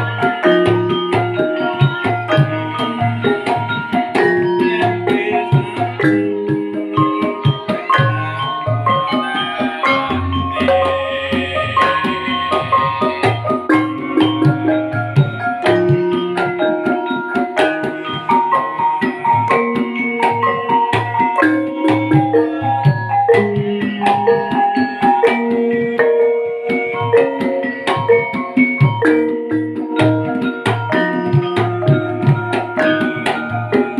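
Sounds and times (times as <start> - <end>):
hand drum beats: 0.0 - 33.9
metallophones striking notes: 0.0 - 33.9.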